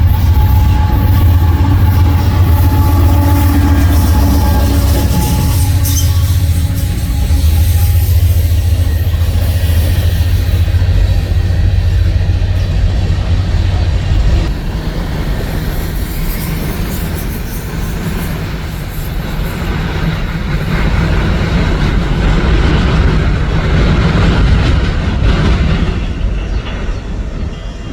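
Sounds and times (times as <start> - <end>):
diesel locomotive rumble: 0.0 - 27.9
train cars rolling on rails: 0.0 - 27.9.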